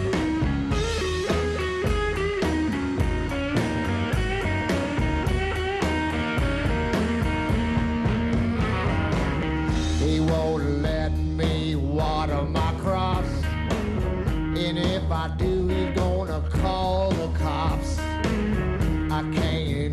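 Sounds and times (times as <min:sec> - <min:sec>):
drum beat: 0:00.0 - 0:19.7
double bass: 0:00.0 - 0:19.9
electric guitar lead: 0:00.0 - 0:19.9.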